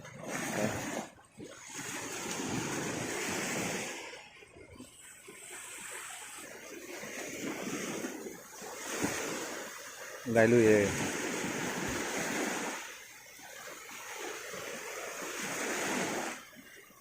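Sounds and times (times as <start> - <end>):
sea waves washing onto shore: 0.0 - 17.0.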